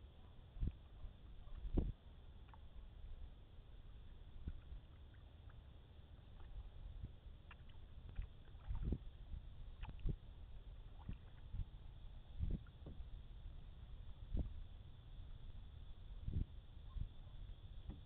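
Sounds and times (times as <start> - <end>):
paddle in water: 0.0 - 18.0
steady low rumble: 0.0 - 18.0.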